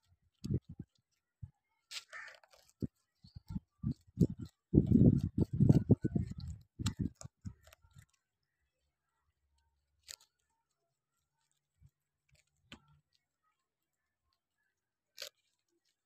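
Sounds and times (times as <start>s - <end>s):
rabbits crunching cauliflower: 0.0s - 8.6s, 9.3s - 14.1s, 15.1s - 16.0s.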